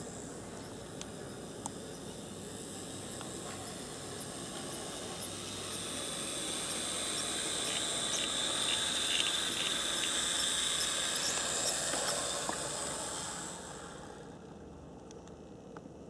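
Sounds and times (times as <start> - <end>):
model train motor whine: 0.0 - 14.6.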